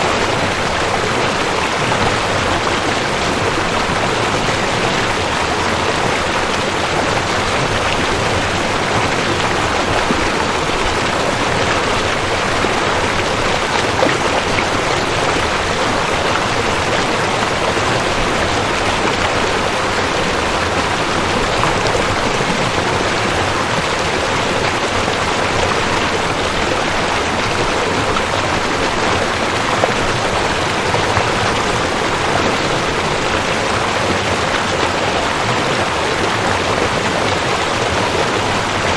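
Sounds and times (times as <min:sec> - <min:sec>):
water running over rocks: 0:00.0 - 0:38.9.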